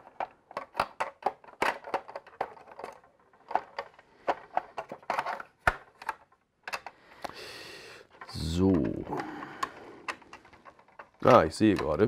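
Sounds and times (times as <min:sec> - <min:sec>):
plastic parts clicking and knocking: 0:00.0 - 0:07.4, 0:08.0 - 0:12.0.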